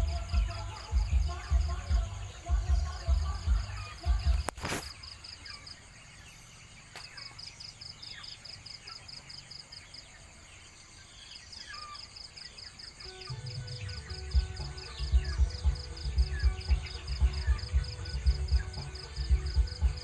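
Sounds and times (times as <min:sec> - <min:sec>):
bird chirps: 0:00.0 - 0:20.0
insect chirping: 0:00.0 - 0:20.0.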